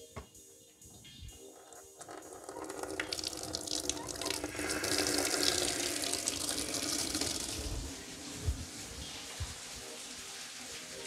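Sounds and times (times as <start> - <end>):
water running from tap: 1.3 - 11.0.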